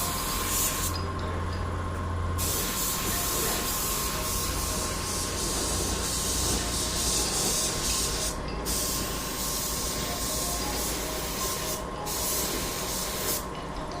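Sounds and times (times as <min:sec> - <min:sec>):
paint spray gun hissing: 0:00.0 - 0:01.0, 0:02.4 - 0:13.5.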